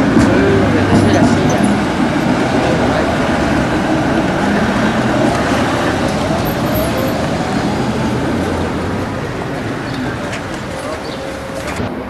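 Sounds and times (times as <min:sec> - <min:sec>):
general traffic: 0:00.0 - 0:12.0
tram rumbling on rails: 0:00.0 - 0:12.0.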